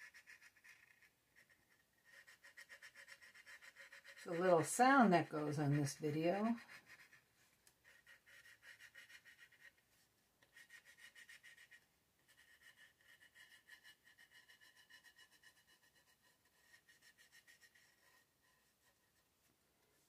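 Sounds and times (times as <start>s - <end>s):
marker scratching on canvas: 0.0s - 9.8s, 10.4s - 19.2s.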